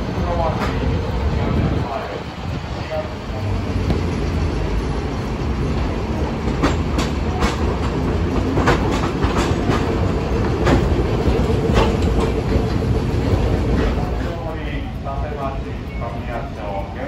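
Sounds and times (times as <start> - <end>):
tram wheels clacking on rails: 0.0 - 17.0.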